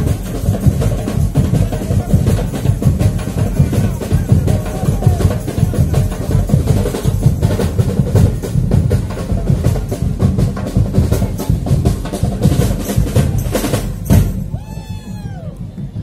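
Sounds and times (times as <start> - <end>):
percussion band drumming: 0.0 - 16.0.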